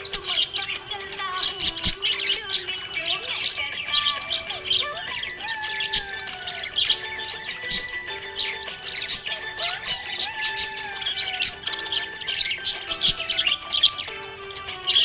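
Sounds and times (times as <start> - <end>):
parrots chirping and twittering: 0.0 - 15.0.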